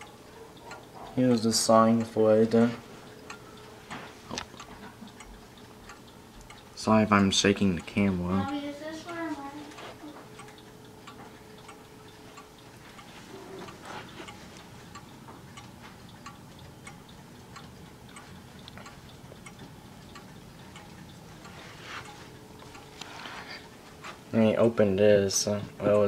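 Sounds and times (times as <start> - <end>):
clock ticking: 0.0 - 26.0.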